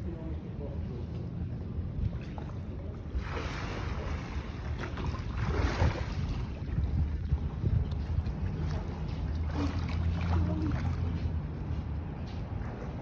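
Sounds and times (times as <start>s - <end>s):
wind buffeting microphone: 1.5s - 13.0s.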